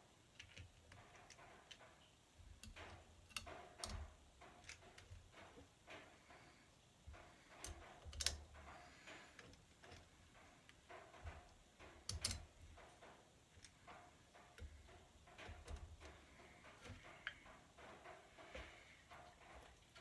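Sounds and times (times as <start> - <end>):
light clicks and taps: 0.3 - 20.0.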